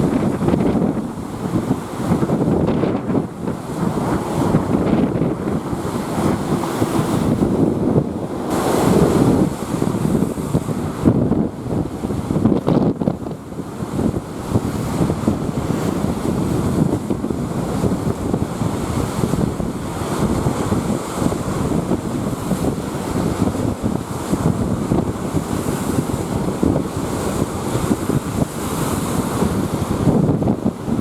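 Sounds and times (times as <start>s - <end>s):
rough lake waves: 0.0s - 31.0s
wind buffeting microphone: 0.0s - 31.0s.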